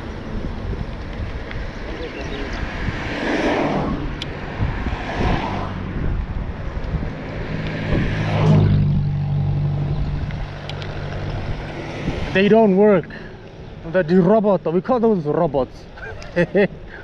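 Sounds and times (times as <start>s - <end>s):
cars passing: 0.0s - 17.0s
vehicle engine humming: 0.0s - 17.0s.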